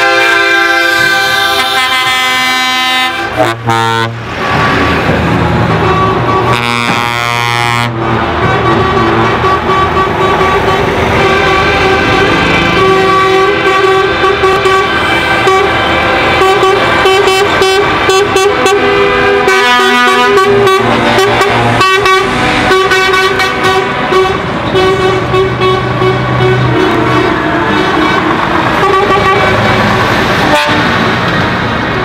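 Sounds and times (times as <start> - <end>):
truck horns: 0.0 - 32.0
trucks driving past: 0.0 - 32.0.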